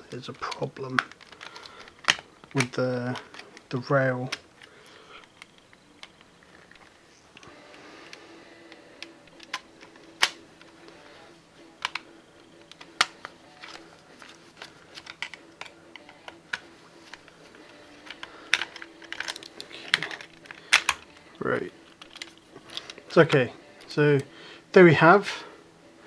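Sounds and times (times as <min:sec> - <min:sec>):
plastic clicks and clatter: 0:00.2 - 0:11.0, 0:11.8 - 0:21.3, 0:21.9 - 0:23.9.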